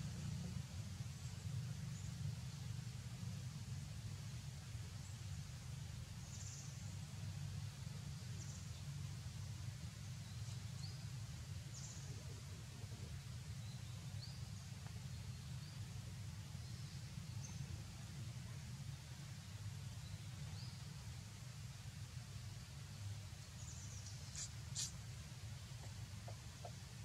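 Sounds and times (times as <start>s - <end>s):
faint hiss: 0.0s - 27.0s.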